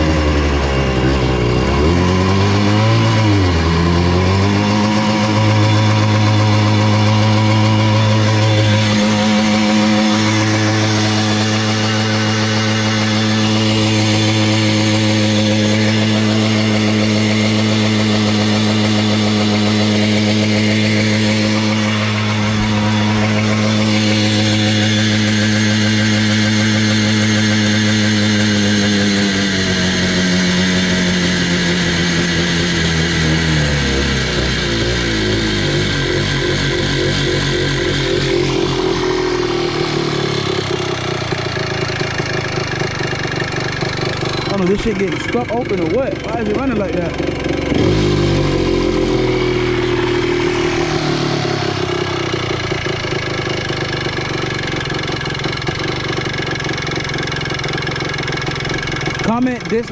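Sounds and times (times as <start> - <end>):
two-stroke engine idling: 0.0 - 59.9.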